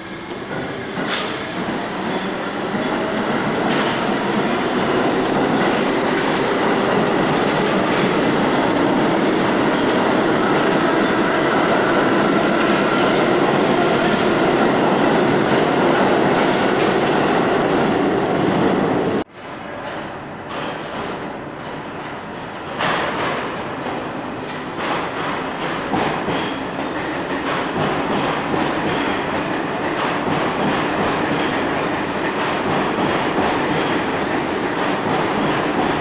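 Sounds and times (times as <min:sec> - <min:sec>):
subway train rumbling past: 0:00.0 - 0:36.0.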